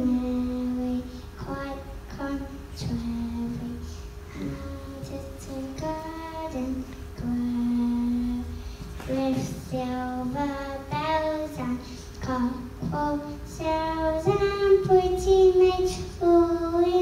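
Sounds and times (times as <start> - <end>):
girl singing into microphone: 0.0 - 17.0.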